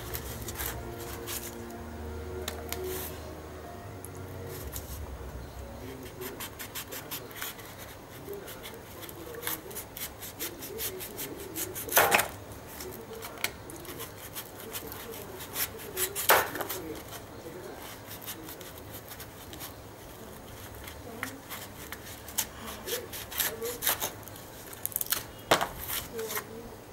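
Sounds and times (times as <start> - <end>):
knife scraping fruit husk: 0.0 - 1.8, 5.8 - 26.6.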